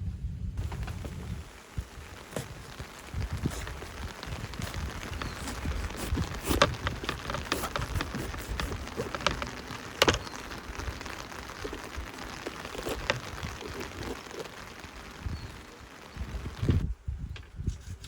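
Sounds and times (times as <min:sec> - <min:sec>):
steady rain falling: 0:00.6 - 0:16.9.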